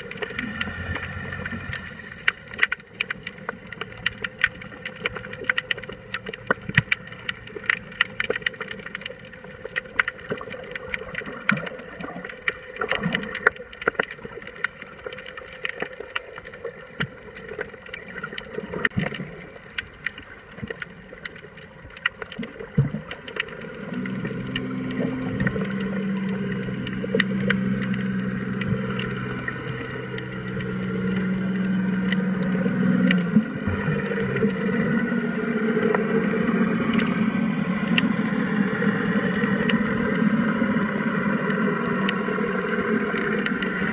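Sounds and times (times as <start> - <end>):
boat motor hum: 0.0 - 43.9
underwater crackle of clicks: 0.0 - 43.9.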